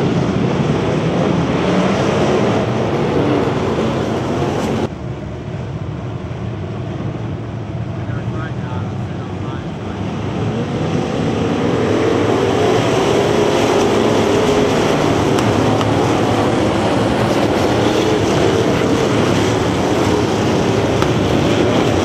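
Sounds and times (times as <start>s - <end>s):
stock car engines racing: 0.0s - 4.9s, 6.6s - 22.0s.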